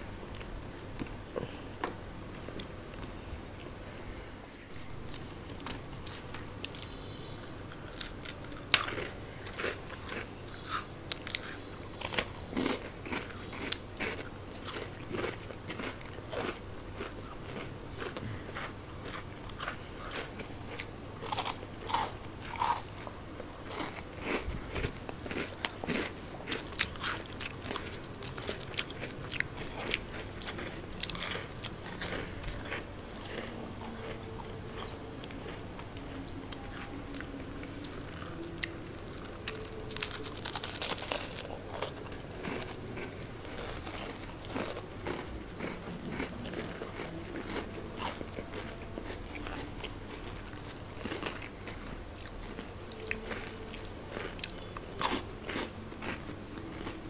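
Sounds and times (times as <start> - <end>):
chewing: 7.7 - 57.0
crunching crispy snacks: 7.7 - 57.0.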